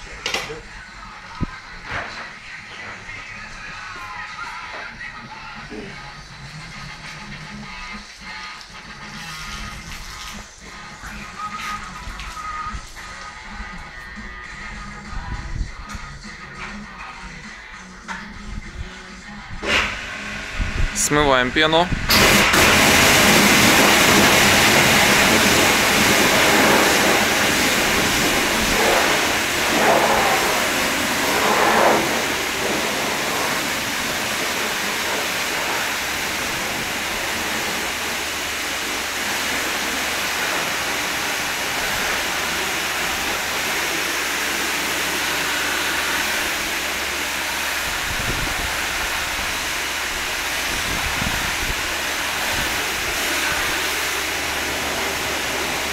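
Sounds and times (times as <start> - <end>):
pressure washer spraying water: 5.3 - 15.1, 19.6 - 21.2, 22.1 - 55.9.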